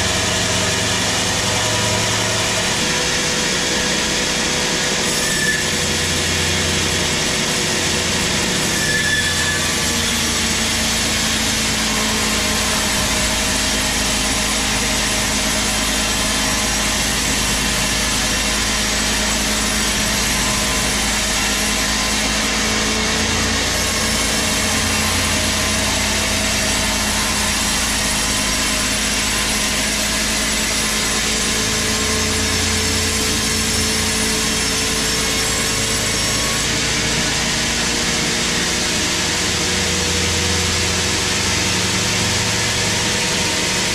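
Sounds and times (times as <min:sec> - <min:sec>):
band saw cutting a log: 0:00.0 - 0:43.9.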